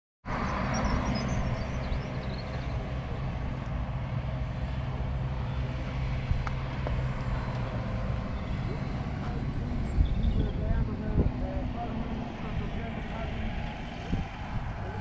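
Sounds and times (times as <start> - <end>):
diesel engine running: 0.3 - 15.0.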